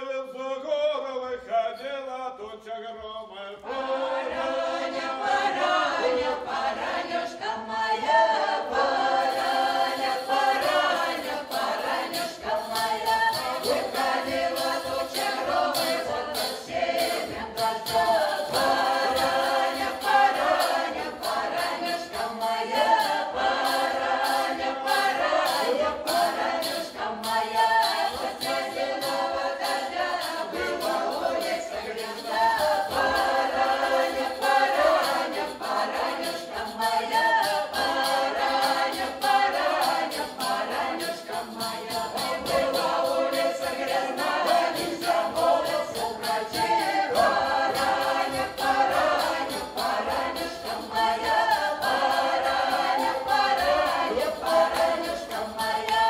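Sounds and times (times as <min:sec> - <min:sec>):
mixed choir singing a cappella: 0:03.0 - 0:56.0.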